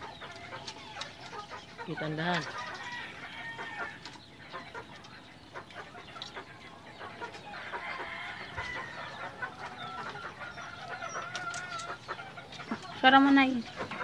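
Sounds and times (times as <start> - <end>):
pigeons pecking grain: 0.0 - 14.0.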